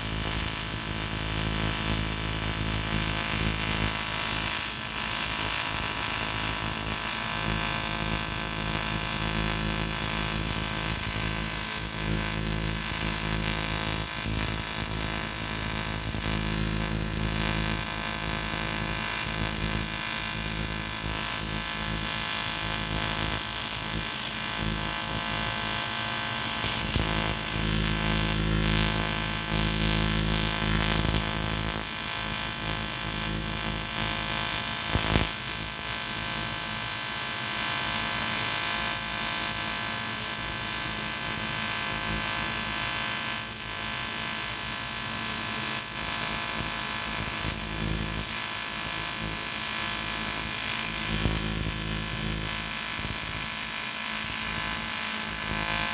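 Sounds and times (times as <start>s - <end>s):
welding arc buzzing: 0.0s - 55.9s.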